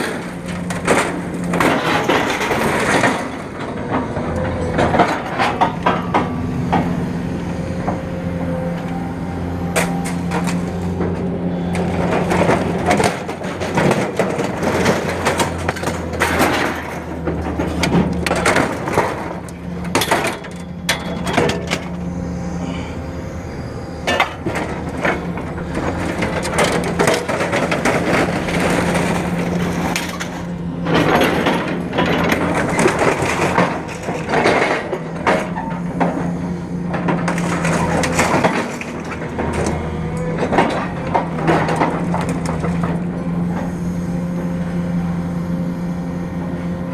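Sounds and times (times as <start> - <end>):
metal clanking and crunching: 0.0 - 45.5
engine hum: 0.0 - 46.9.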